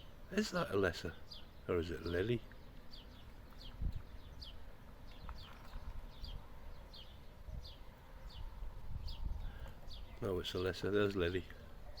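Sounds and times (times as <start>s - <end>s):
small bird chirping: 0.8s - 12.0s.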